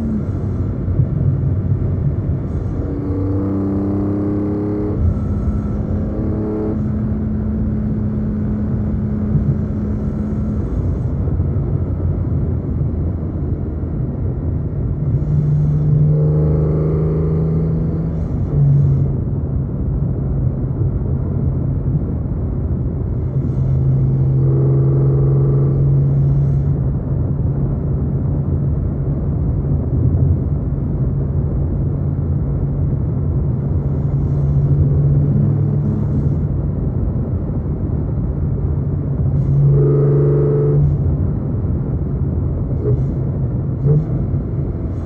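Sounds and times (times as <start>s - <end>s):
car exhaust drone cruising: 0.0s - 45.0s.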